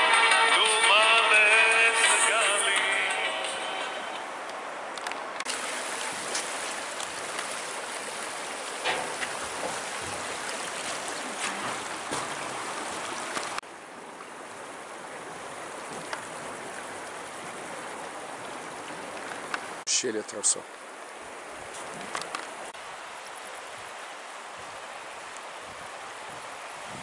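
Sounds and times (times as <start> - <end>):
mountain stream rushing: 0.0 - 27.0.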